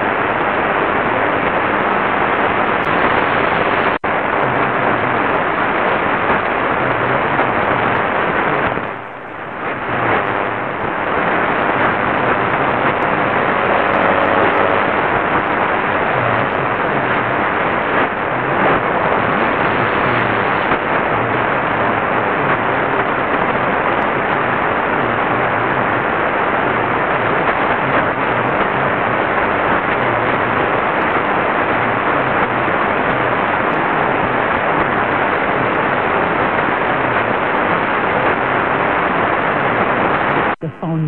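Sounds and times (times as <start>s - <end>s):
radio static hiss: 0.0s - 41.0s.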